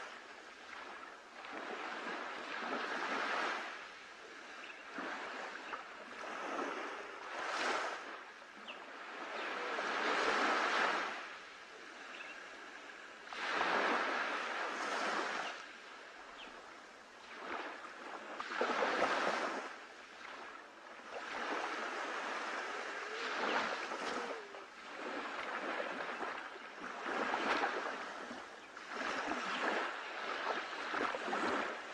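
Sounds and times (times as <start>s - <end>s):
small waves breaking and splashing: 0.0s - 31.9s.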